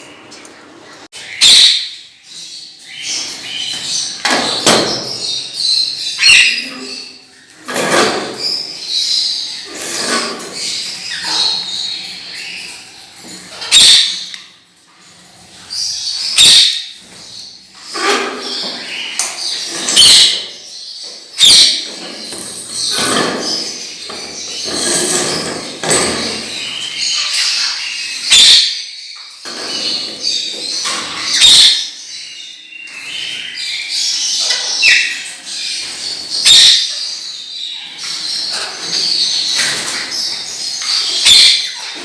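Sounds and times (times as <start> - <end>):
parrots chirping and squawking: 1.0 - 42.0.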